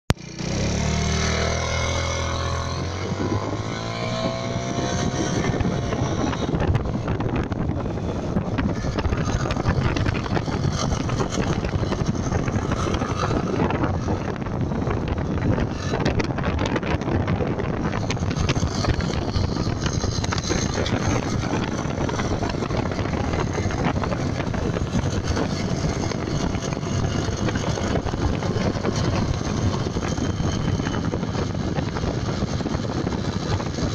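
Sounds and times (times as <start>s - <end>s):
rough harsh transmission rumble: 0.1s - 33.9s
scooter engine revving: 0.1s - 33.9s.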